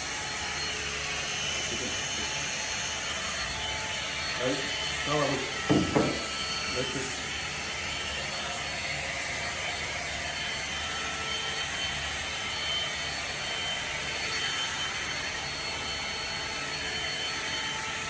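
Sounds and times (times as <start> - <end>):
hot-air styler blowing: 0.0 - 18.0.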